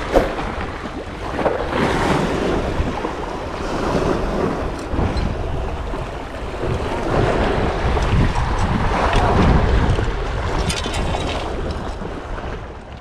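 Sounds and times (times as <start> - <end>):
sea waves: 0.0 - 13.0
wind buffeting microphone: 0.0 - 13.0.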